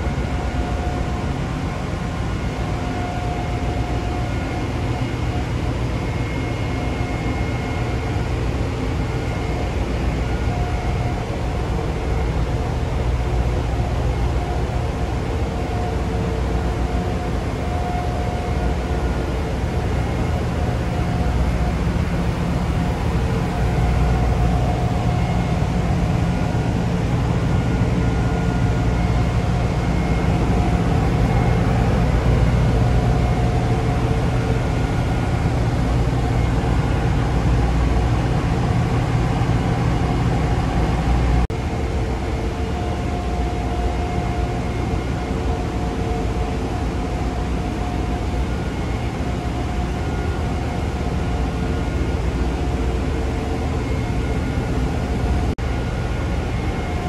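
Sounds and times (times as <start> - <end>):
engine room machinery rumble: 0.0 - 57.0
faint steady tones: 0.0 - 57.0.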